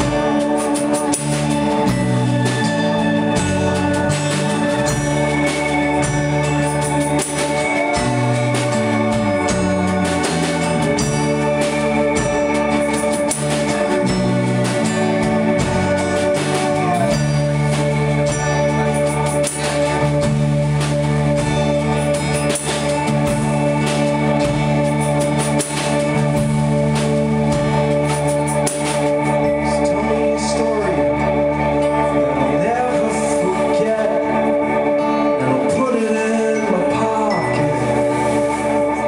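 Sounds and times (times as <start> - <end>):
acoustic guitar: 0.0 - 39.0
bass guitar: 0.0 - 39.0
drums with cymbals: 0.0 - 39.0
electric guitar: 0.0 - 39.0.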